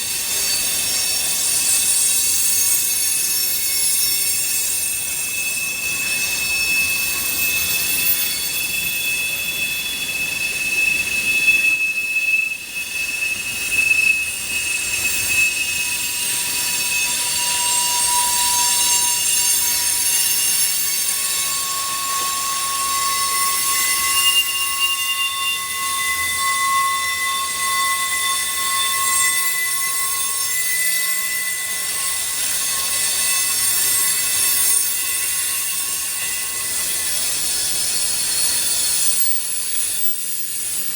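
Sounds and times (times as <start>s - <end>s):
train wheels squealing on rails: 0.0s - 40.9s.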